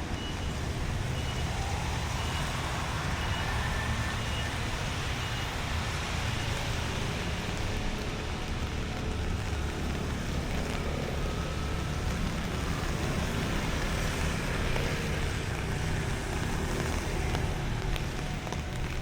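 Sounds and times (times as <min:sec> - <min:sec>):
rain on street: 0:00.0 - 0:19.0
traffic passing: 0:00.0 - 0:19.0.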